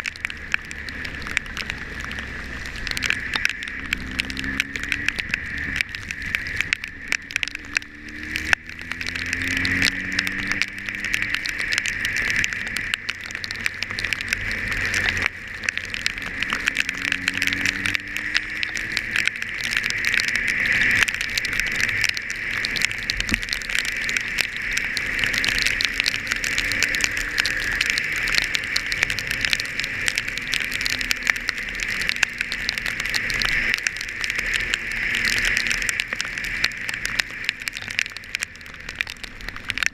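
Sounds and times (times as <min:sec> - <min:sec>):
engine speeding up: 0:00.0 - 0:39.9
rain and wind hissing: 0:00.0 - 0:39.9
raindrops crackling on microphone: 0:00.0 - 0:39.9.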